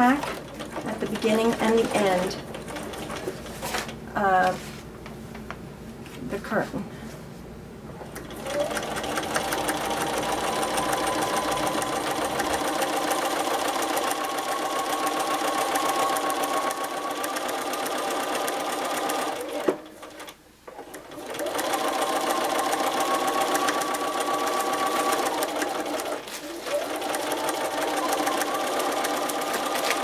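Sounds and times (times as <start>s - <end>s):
sewing machine stitching: 0.0s - 3.7s, 8.0s - 30.0s.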